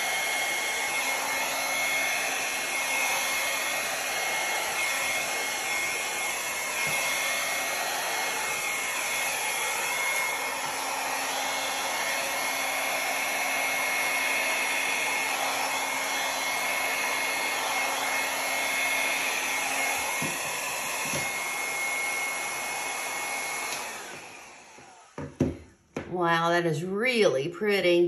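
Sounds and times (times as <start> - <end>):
hair dryer whirring: 0.0 - 27.4.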